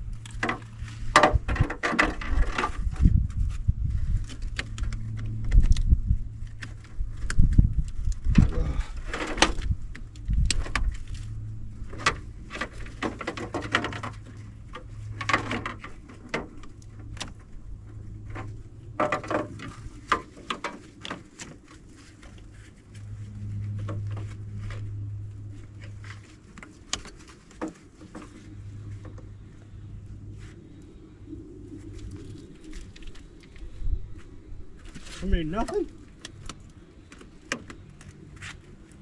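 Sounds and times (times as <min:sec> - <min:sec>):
hands and tools handling things: 0:00.0 - 0:39.0
low hum: 0:00.0 - 0:39.0.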